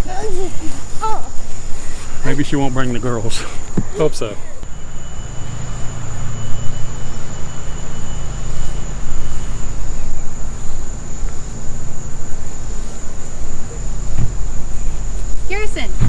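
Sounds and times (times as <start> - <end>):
car engine idling: 0.0 - 16.0
insects droning: 0.0 - 16.0.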